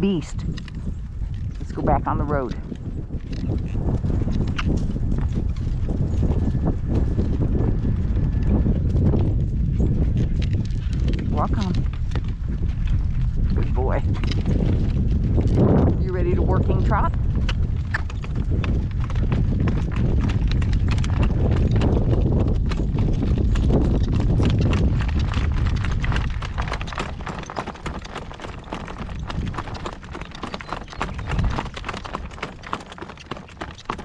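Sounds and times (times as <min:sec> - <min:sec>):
horse hooves clip-clopping on road: 0:00.0 - 0:34.0
wind buffeting microphone: 0:00.0 - 0:34.0.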